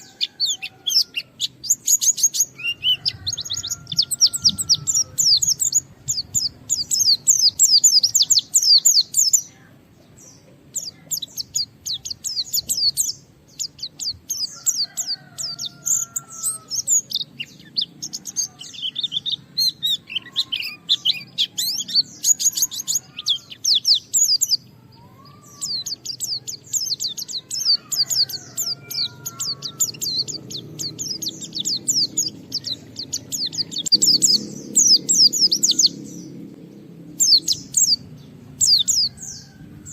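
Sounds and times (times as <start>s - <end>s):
bird chattering and twittering: 0.0s - 39.9s.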